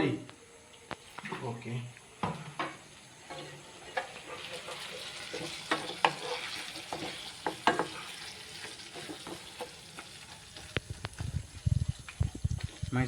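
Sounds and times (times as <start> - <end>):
food sizzling in a pan: 2.0 - 13.0.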